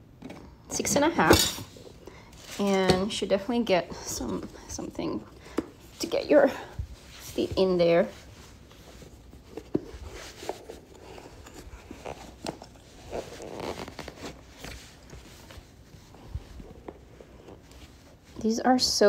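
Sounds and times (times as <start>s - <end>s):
leather and sock rustling: 1.7s - 18.7s.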